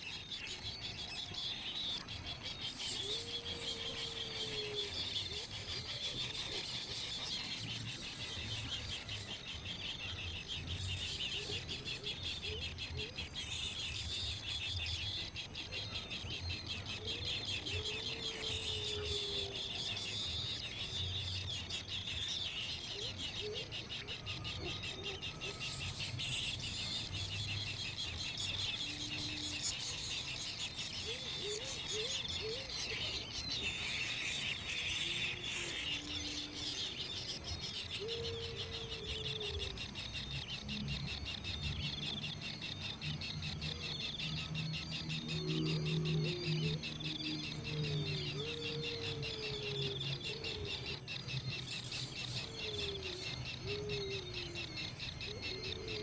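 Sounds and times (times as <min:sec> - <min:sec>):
baby birds chirping: 0:00.0 - 0:56.0.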